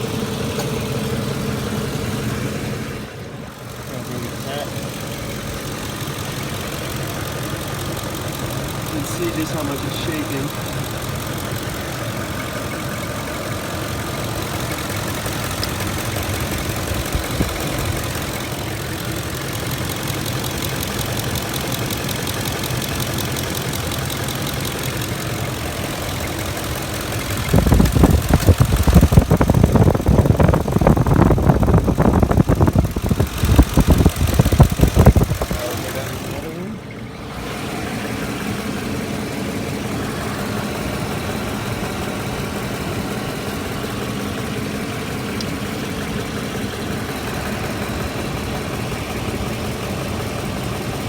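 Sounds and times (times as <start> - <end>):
loud rumble with uneven pulses: 0.0 - 51.0
truck engine idling roughly: 0.0 - 51.0.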